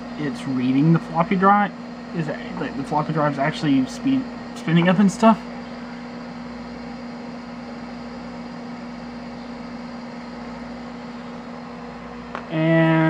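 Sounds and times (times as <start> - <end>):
floppy drive spinning: 0.0 - 13.0.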